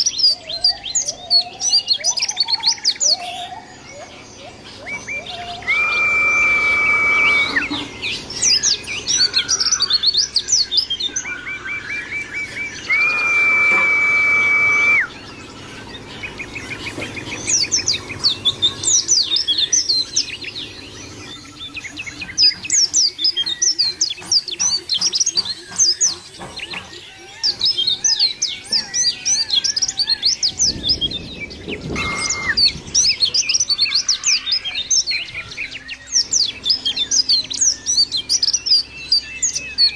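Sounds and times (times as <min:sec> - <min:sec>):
long level bird whistles: 0:00.0 - 0:23.2, 0:27.2 - 0:39.9
bird chattering twitter: 0:00.0 - 0:39.9
bird trill: 0:00.0 - 0:39.9.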